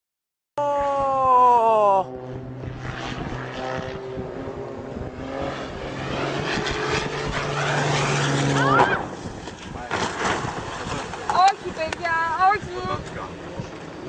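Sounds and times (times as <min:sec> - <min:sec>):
noisy engine drone: 0:00.6 - 0:14.0
propeller aircraft engine passing: 0:00.9 - 0:14.0.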